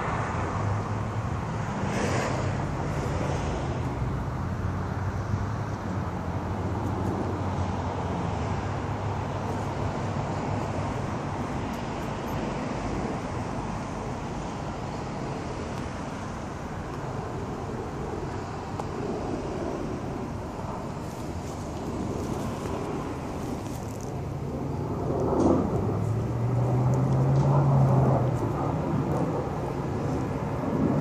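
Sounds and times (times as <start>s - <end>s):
low engine rumble: 0.0s - 31.0s
passing vehicles hum: 0.0s - 31.0s.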